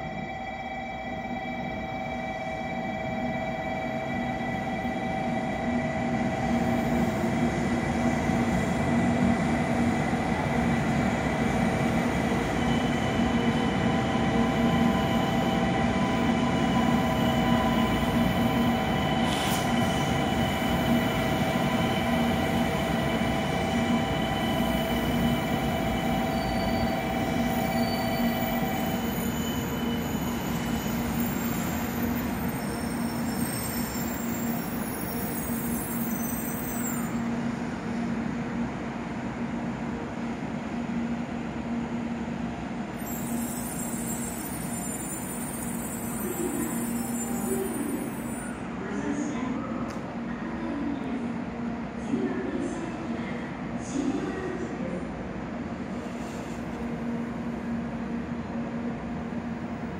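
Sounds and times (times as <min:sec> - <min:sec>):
train running slowly past: 0:00.0 - 0:59.9.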